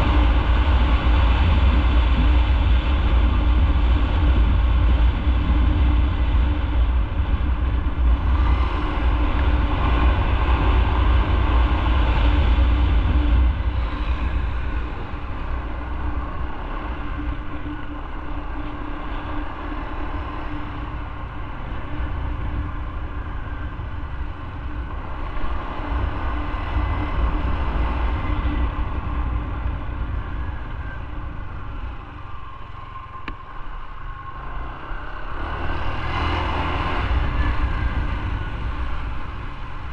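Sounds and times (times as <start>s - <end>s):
motorcycle engine rumble: 0.0s - 39.9s
road noise: 0.0s - 39.9s.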